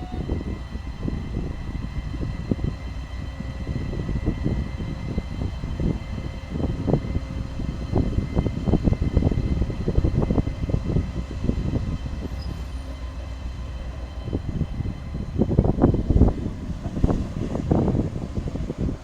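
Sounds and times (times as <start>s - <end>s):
train low rumble: 0.0s - 19.0s
train wheel clatter: 0.0s - 19.0s.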